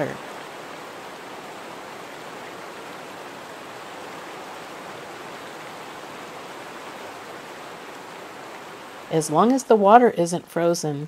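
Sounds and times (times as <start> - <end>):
stream rushing over rocks: 0.0 - 10.7.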